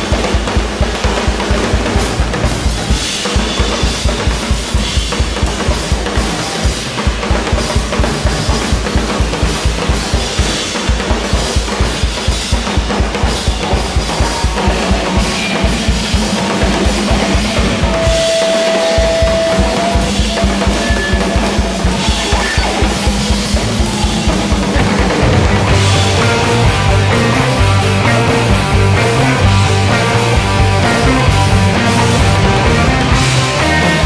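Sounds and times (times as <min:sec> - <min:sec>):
loud rock music: 0:00.0 - 0:34.0.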